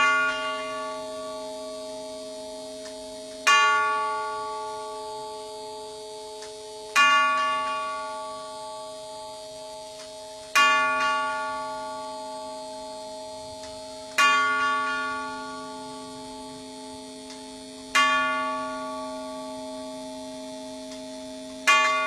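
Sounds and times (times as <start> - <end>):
clock chime strokes: 0.0 - 22.0.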